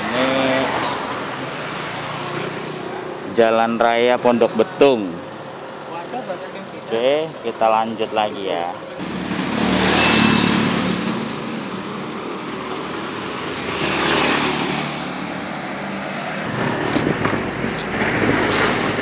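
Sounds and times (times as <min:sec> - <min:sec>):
vehicles passing by: 0:00.0 - 0:19.0.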